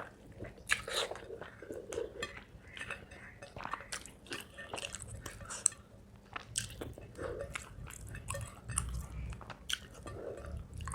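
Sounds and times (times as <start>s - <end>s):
chewing with wet mouth clicks: 0.0s - 10.9s.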